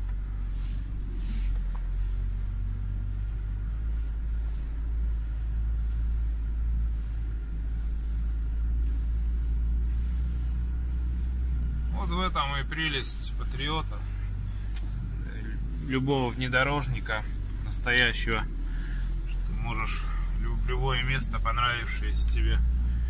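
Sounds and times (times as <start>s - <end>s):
car engine running: 0.0s - 23.0s
faint rustles: 0.0s - 23.0s.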